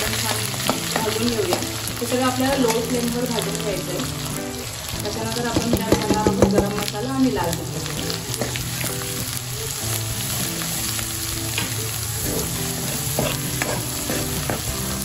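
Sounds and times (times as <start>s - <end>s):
spice paste sizzling in oil: 0.0s - 15.0s.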